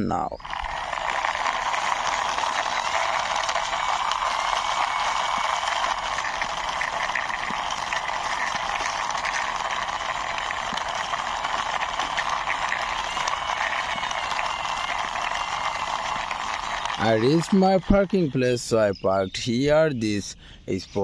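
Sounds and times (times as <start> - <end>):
toy car wheels rattling: 0.4 - 18.3.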